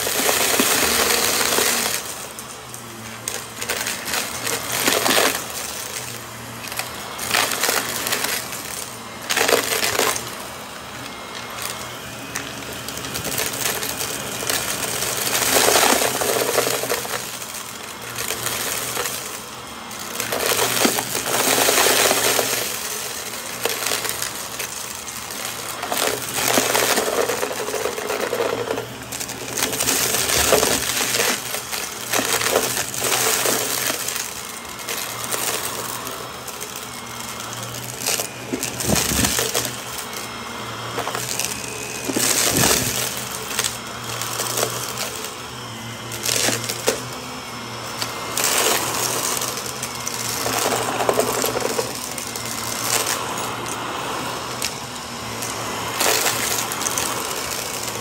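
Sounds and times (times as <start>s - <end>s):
debris crackling through vacuum nozzle: 0.0s - 58.0s
vacuum cleaner motor hum: 0.0s - 58.0s.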